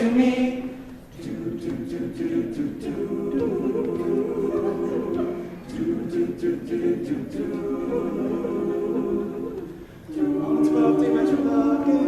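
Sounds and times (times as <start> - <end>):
male group singing chords: 0.0 - 12.0.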